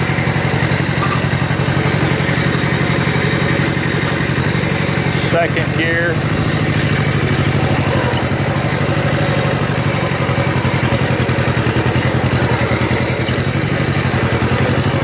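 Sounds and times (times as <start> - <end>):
tractor diesel engine throbbing: 0.0 - 15.0.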